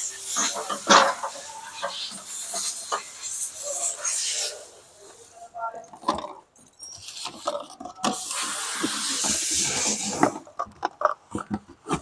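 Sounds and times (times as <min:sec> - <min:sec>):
scraping rustle of bottles and box: 0:00.0 - 0:05.2, 0:06.0 - 0:12.0.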